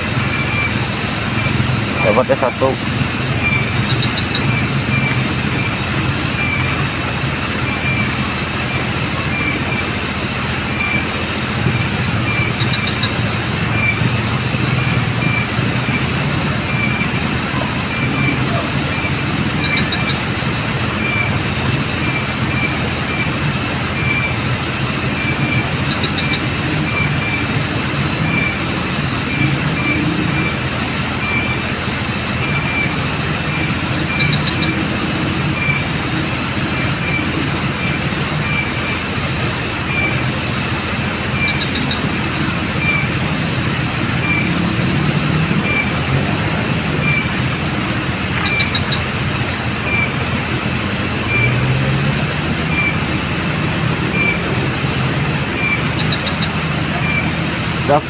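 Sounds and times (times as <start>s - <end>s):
constant hiss: 0.0s - 58.0s
insects chirping: 0.0s - 58.0s.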